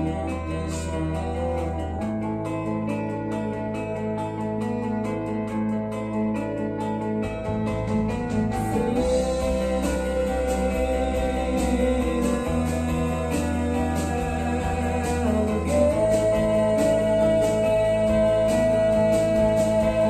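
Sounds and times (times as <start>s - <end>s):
bass notes: 0.0s - 20.0s
gliding lead synth line: 0.0s - 20.0s.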